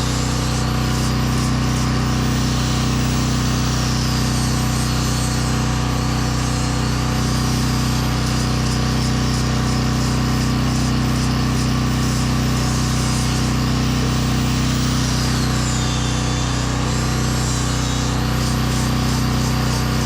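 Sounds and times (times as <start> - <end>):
generator running: 0.0 - 20.0
power sander whining on wood: 0.0 - 20.0.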